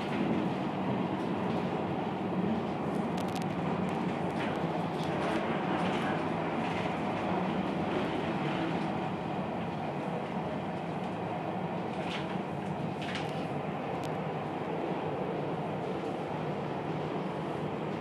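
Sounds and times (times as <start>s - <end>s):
funicular car rumbling on rails: 0.0s - 18.0s.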